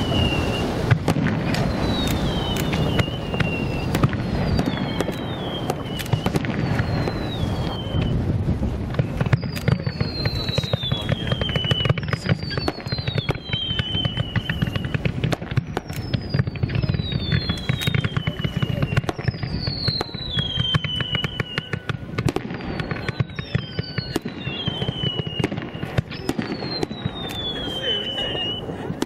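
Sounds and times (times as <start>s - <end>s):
fireworks bangs and crackling: 0.0s - 29.0s
whistling fireworks: 0.0s - 29.0s.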